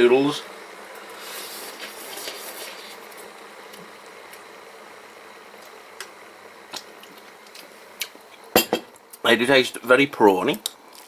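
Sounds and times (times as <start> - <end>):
hotpot steaming hiss: 0.0 - 10.6.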